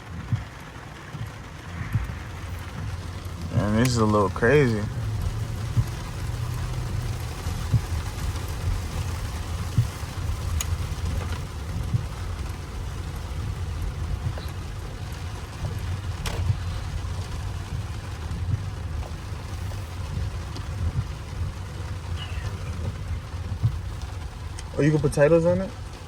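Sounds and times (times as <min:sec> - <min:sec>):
car driving low rumble: 0:00.0 - 0:26.0
heavy rain: 0:00.0 - 0:26.0
sharp ticks: 0:00.1 - 0:26.0.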